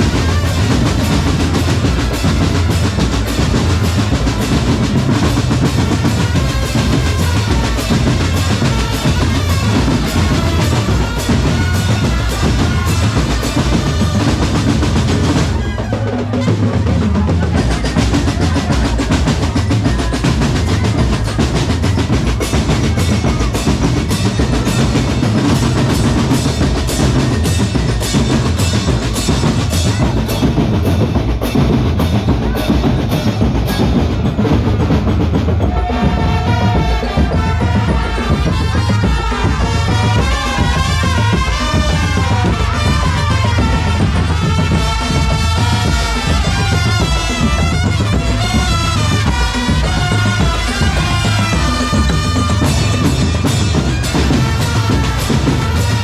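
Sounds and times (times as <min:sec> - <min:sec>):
marching drum corps: 0:00.0 - 0:56.0
melodic line over drums: 0:00.0 - 0:56.0.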